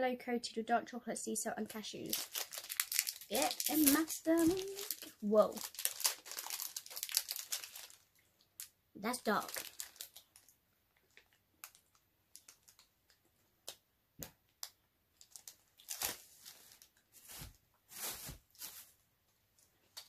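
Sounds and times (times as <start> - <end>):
plastic wrapper crinkling: 2.0 - 13.8, 14.6 - 19.0, 19.6 - 20.0.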